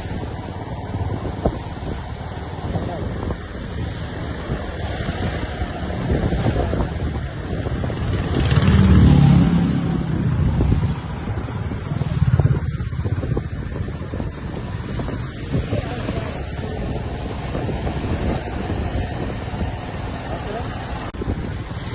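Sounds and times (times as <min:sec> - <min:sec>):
road traffic passing: 0:00.0 - 0:21.9.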